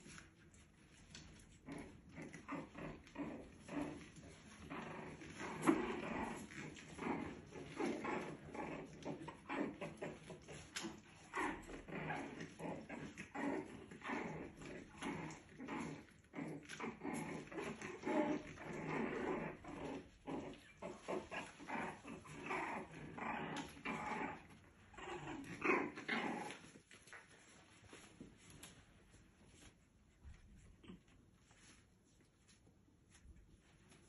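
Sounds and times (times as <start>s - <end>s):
puppies growling: 0.0s - 34.0s.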